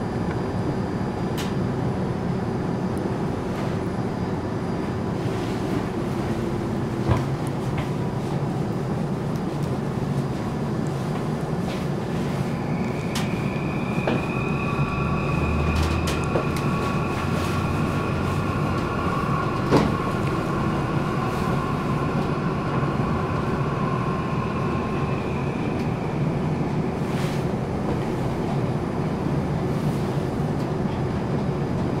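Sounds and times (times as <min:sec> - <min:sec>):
train cabin rumble: 0:00.0 - 0:32.0.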